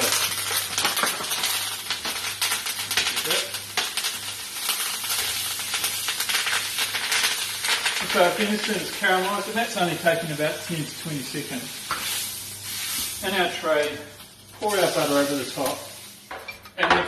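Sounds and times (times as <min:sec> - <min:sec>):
meat sizzling in a hot pan: 0:00.0 - 0:16.4.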